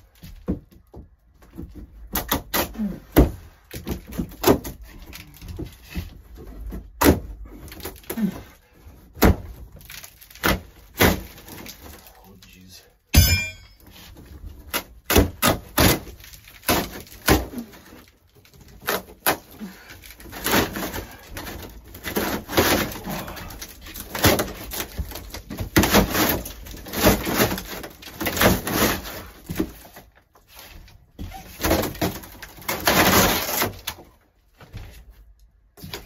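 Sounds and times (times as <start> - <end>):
ceiling panel cracking and creaking: 0.0 - 12.7, 13.8 - 36.0.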